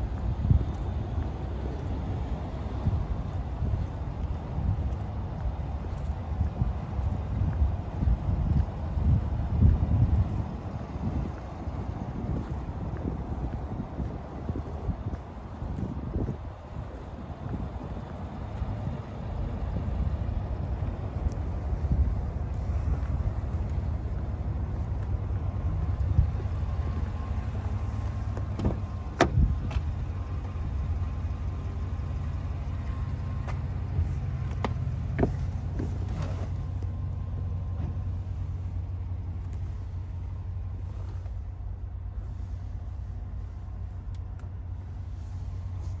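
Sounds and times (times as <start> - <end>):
engine idling: 0.0 - 46.0.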